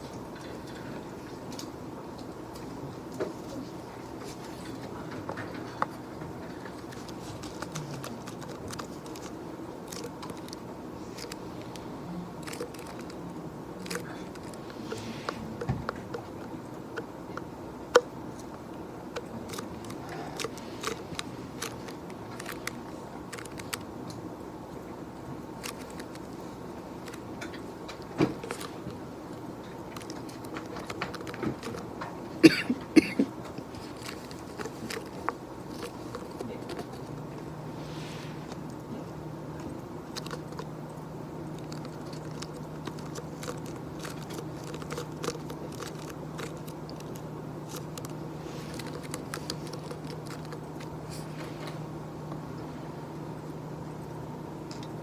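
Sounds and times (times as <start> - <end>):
office room hum: 0.0 - 55.0.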